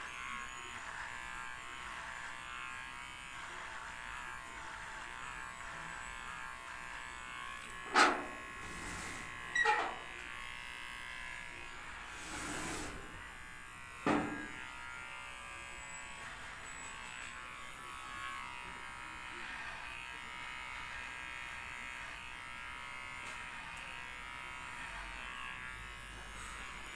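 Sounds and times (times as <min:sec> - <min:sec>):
electric hair clippers buzzing: 0:00.0 - 0:26.9.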